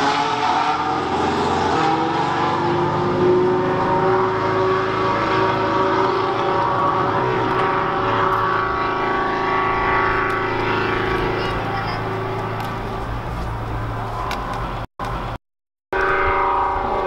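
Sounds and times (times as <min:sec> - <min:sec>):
racing car engine drone: 0:00.0 - 0:17.0.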